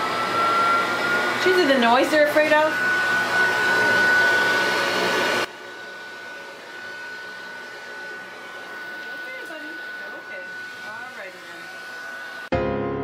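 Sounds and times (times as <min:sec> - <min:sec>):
pet dryer blowing with whine: 0:00.0 - 0:12.5.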